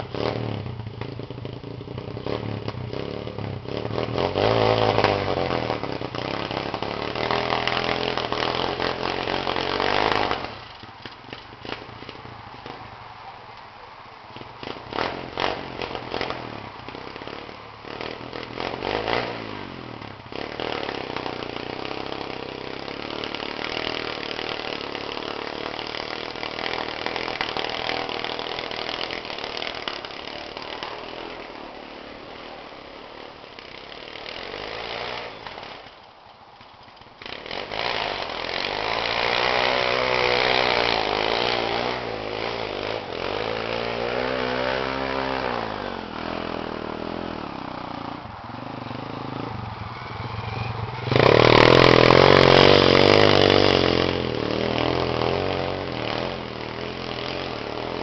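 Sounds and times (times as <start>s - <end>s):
small motorbike engine revving: 0.0s - 13.0s, 14.3s - 58.0s.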